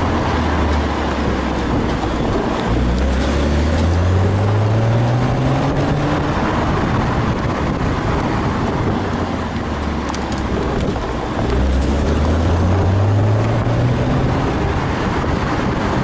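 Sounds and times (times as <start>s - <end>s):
car engine drone: 0.0s - 16.0s
road and wind noise: 0.0s - 16.0s.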